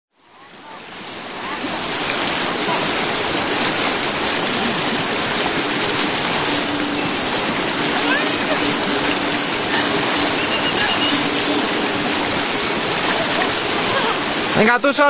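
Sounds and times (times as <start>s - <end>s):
river rushing: 0.2s - 15.0s.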